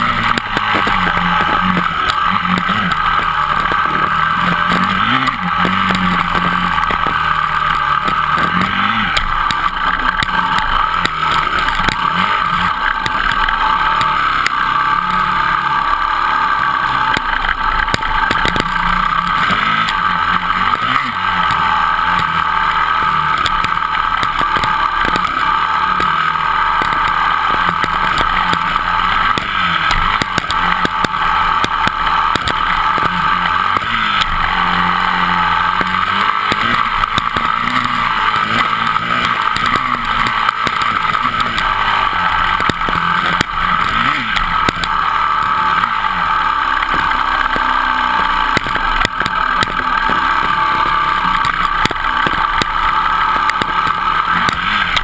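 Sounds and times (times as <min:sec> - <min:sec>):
bike rattling over rough track: 0:00.0 - 0:55.0
dirt bike engine revving: 0:00.0 - 0:55.0.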